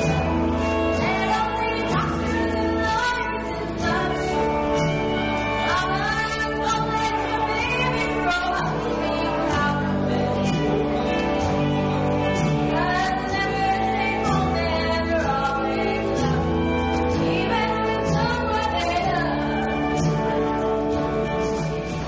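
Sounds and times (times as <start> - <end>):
woman singing: 0.0 - 21.6
instrumental accompaniment: 0.0 - 22.0.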